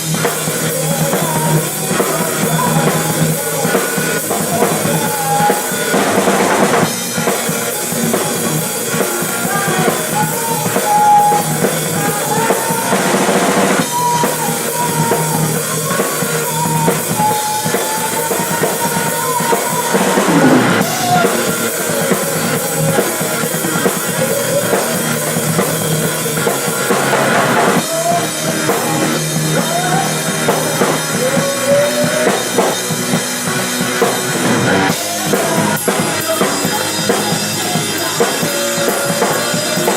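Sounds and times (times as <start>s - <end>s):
rock drum kit: 0.0s - 39.9s.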